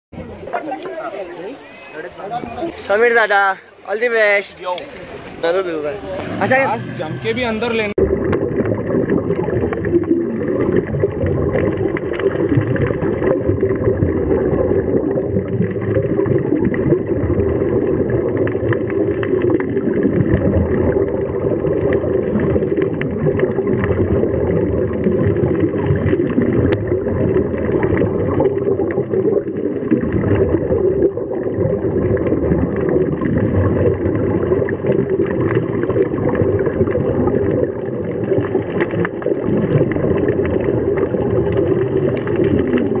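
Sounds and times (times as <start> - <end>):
muffled underwater rumble and gurgling: 6.0 - 43.0.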